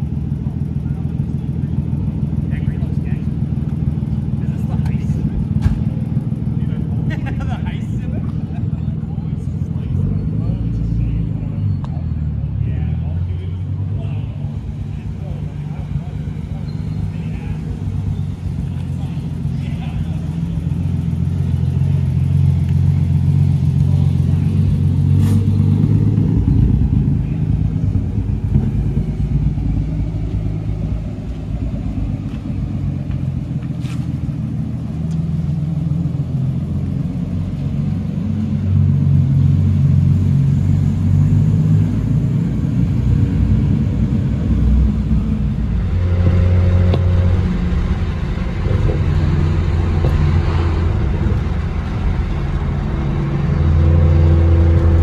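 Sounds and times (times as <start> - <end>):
car engine and exhaust revving: 0.0 - 55.0.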